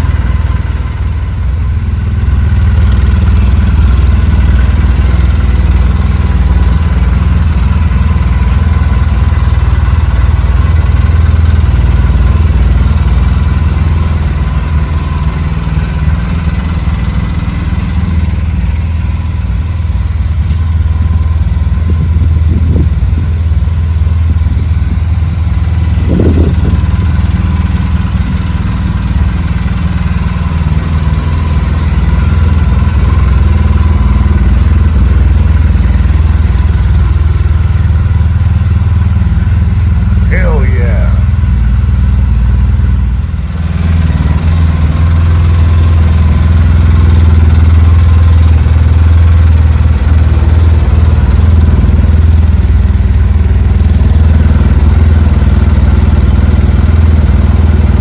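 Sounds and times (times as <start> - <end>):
quad engine idling: 0.0 - 58.0.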